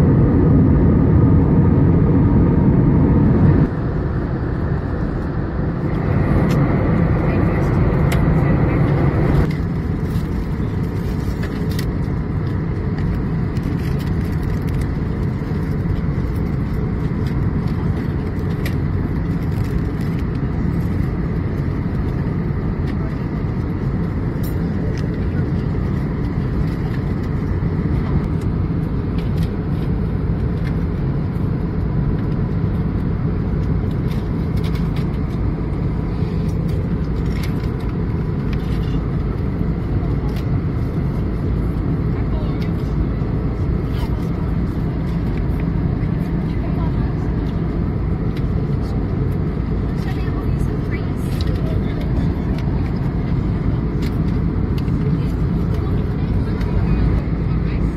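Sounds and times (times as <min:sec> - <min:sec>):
airliner cabin engine rush: 0:00.0 - 0:57.9.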